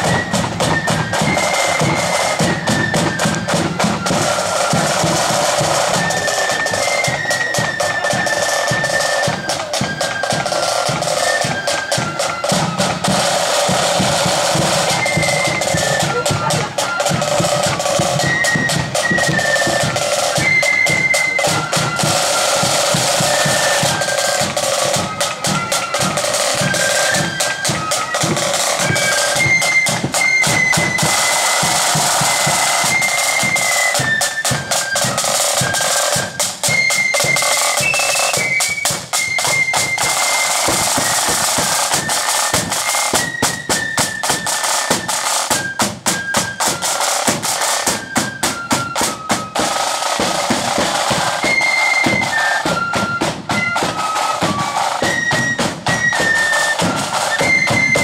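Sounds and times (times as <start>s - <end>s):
high flute melody: 0.0s - 58.0s
snare drum rolls: 0.0s - 58.0s.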